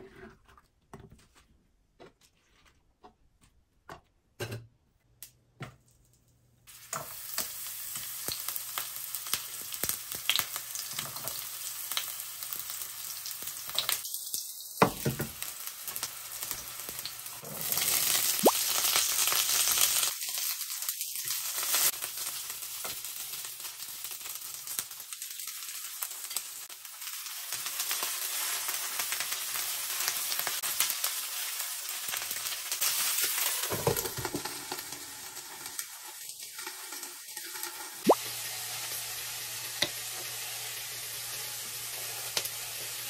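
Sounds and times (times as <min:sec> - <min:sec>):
vegetables sizzling in oil: 0:06.7 - 0:43.0.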